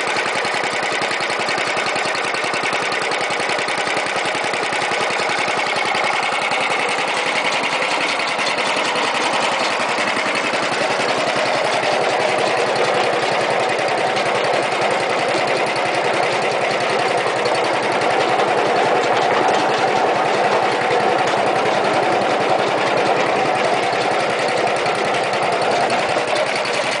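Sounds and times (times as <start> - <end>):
snowblower engine running: 0.0 - 27.0.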